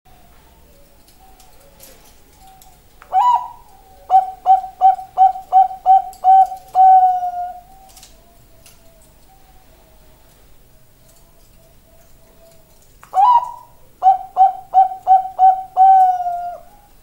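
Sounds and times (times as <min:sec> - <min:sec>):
dove cooing: 0:00.2 - 0:17.0.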